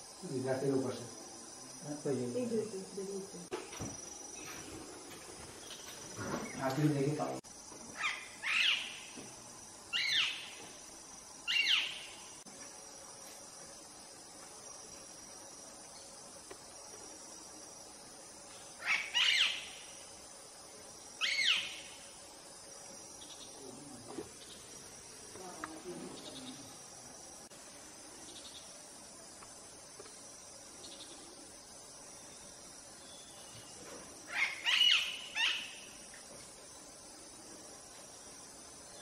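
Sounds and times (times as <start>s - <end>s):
insect drone: 0.0s - 39.0s.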